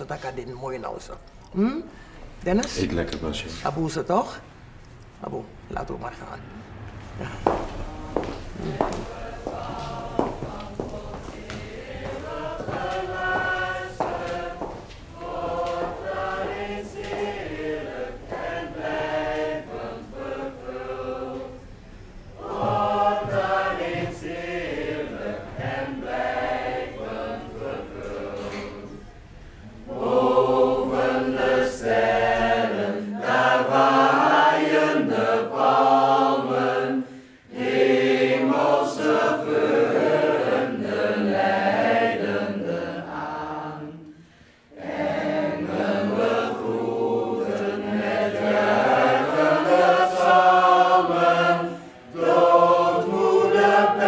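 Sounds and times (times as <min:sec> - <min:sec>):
group singing slow chant: 0:07.0 - 0:54.0.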